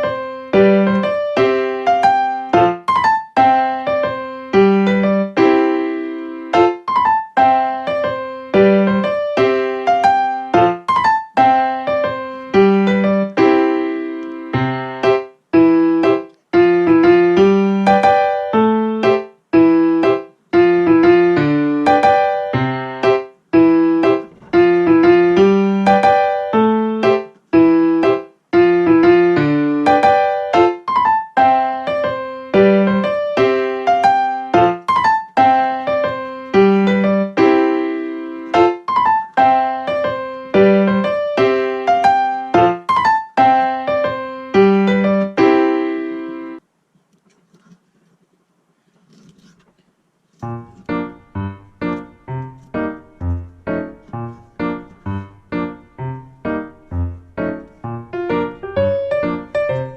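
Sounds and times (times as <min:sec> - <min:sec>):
piano tune: 0:00.0 - 0:46.6, 0:50.4 - 0:59.9.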